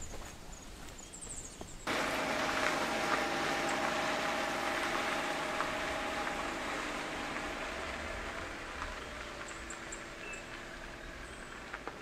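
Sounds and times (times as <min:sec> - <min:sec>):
tyres crunching on gravel: 0:01.6 - 0:12.0
car engine running: 0:01.9 - 0:12.0.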